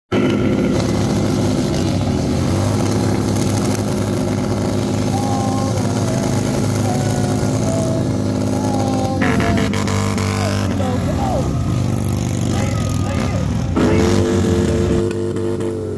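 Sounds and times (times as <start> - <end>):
motorcycle engine running: 0.1 - 15.9.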